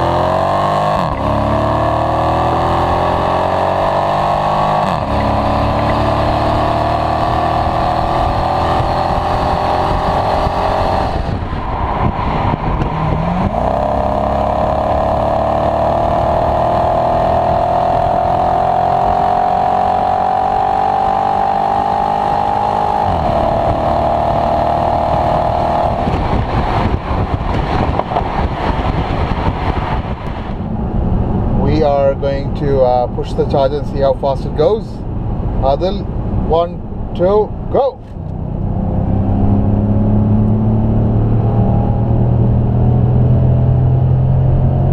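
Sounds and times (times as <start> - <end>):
car engine accelerating: 0.0 - 44.9
road and wind noise: 0.0 - 44.9.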